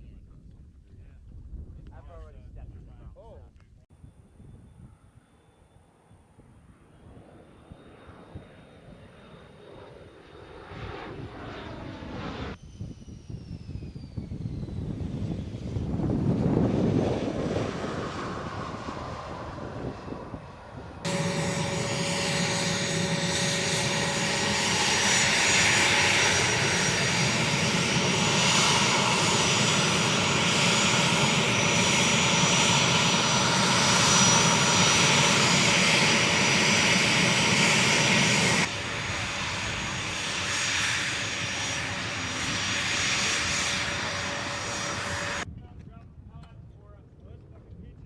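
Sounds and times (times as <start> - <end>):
jet engine whining: 4.0 - 45.5.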